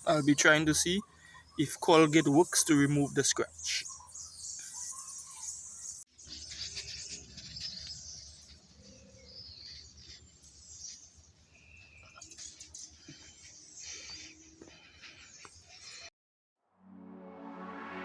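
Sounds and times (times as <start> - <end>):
birds chirping: 0.0 - 16.1
faint outdoor ambience: 0.0 - 16.1.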